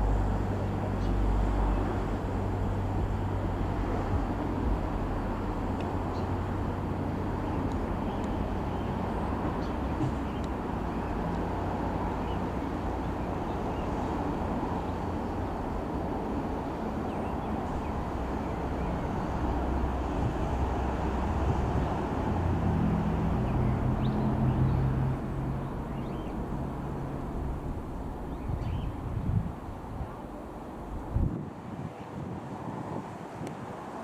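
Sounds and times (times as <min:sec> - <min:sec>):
low propeller drone: 0:00.0 - 0:31.3.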